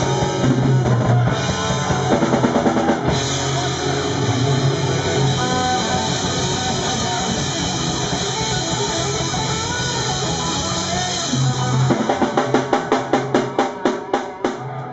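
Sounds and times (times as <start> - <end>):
bass guitar: 0.0 - 14.9
bending lead guitar line: 0.0 - 14.9
drums: 0.0 - 14.9
electric guitar: 0.0 - 14.9.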